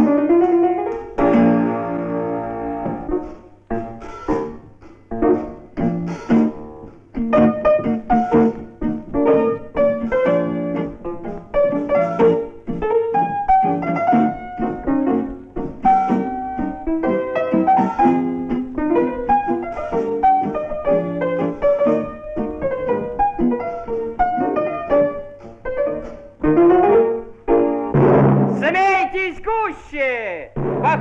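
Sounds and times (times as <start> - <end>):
piano music: 0.0 - 29.2.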